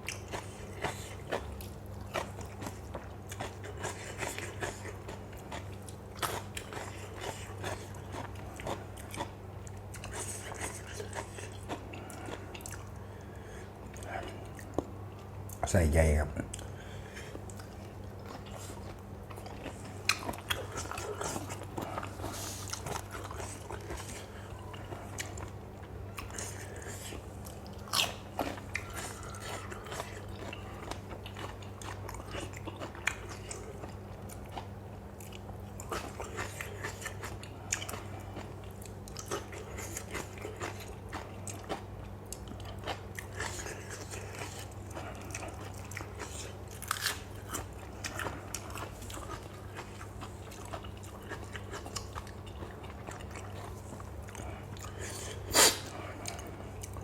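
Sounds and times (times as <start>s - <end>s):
chewing and crunching food: 0.0s - 57.0s.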